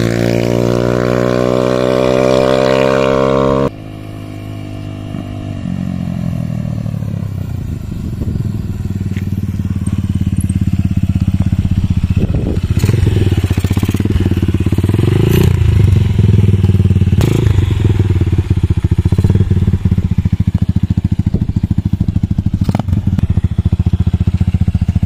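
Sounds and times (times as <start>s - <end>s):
dirt bike engine revving and idling: 0.0s - 25.0s.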